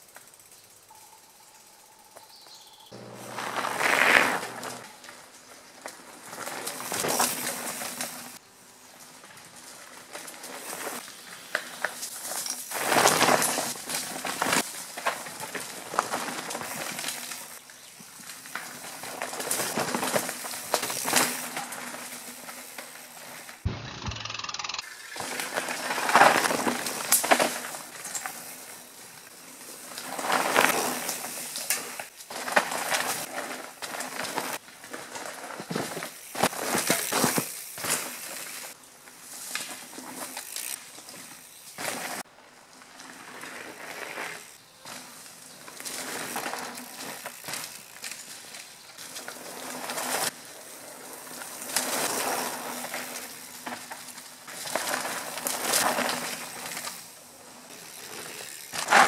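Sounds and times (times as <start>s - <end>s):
bike tyres crunching over leaves: 0.0s - 23.7s, 24.8s - 59.0s.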